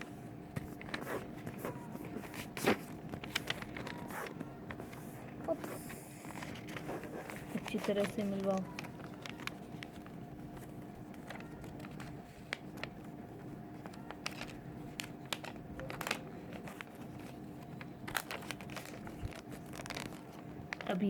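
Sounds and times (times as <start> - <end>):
faint steady hum: 0.0 - 21.0
paper crinkling and rustling: 0.5 - 21.0.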